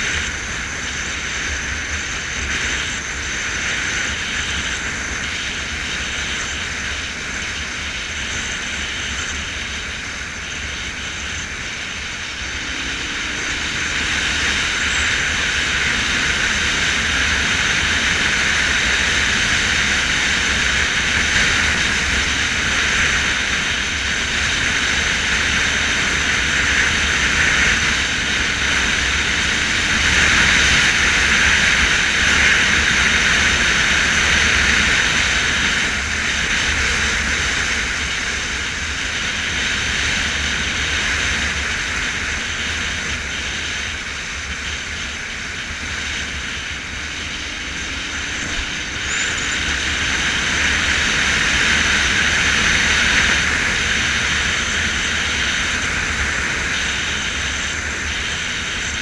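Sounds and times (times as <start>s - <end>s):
motorcycle engine running: 0.0s - 59.0s
road noise: 0.0s - 59.0s
wind rush: 0.0s - 59.0s.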